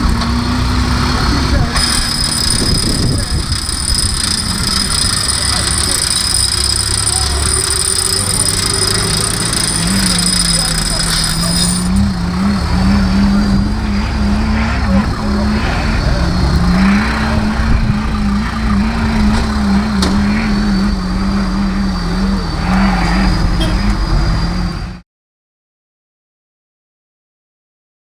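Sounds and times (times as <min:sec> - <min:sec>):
engine droning at steady revs: 0:00.0 - 0:25.0.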